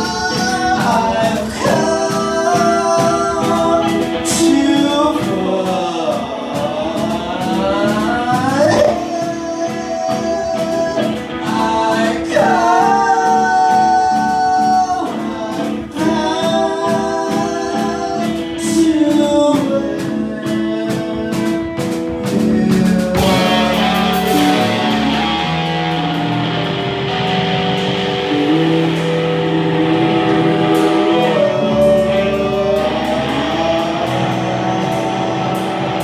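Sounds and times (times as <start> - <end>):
man singing: 0.0 - 27.2, 27.8 - 36.0
live rock band playing: 0.0 - 36.0.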